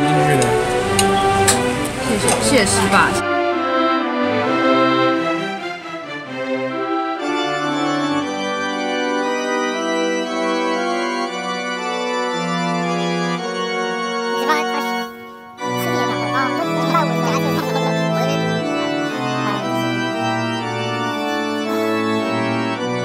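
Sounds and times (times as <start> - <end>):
organ-like keyboard chords: 0.0 - 23.0.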